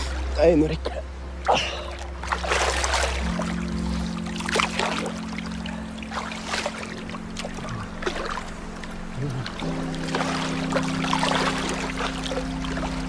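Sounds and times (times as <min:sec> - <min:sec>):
film score low notes: 0:00.0 - 0:13.0
water splashing: 0:00.0 - 0:13.0.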